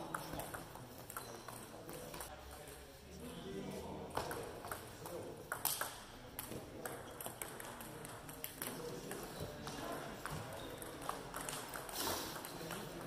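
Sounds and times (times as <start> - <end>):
table tennis balls clicking: 0.0 - 2.8, 4.1 - 13.0.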